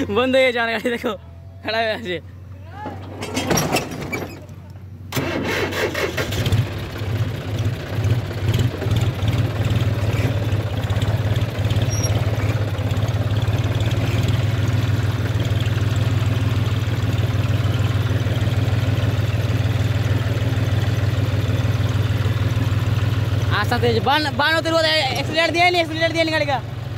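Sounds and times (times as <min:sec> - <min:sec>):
tractor diesel engine starting: 0:05.0 - 0:26.9.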